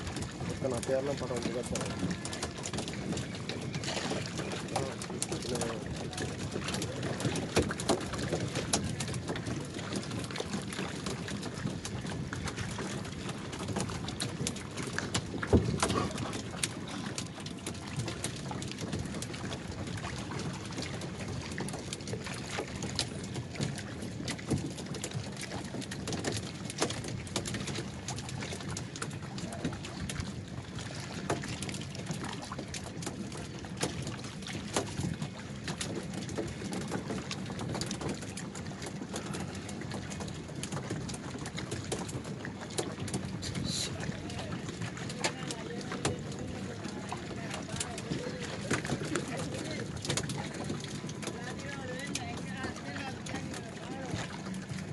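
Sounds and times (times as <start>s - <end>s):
water lapping and splashing: 0.0s - 54.9s
wood knocking against hulls: 0.0s - 54.9s.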